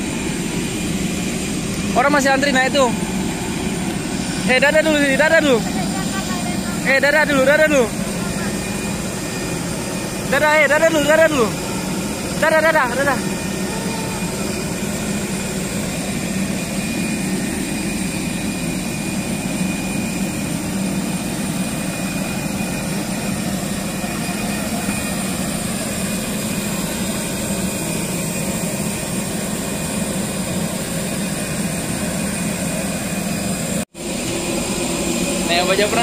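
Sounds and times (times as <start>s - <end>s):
parked airliner whine and rumble: 0.0s - 36.0s.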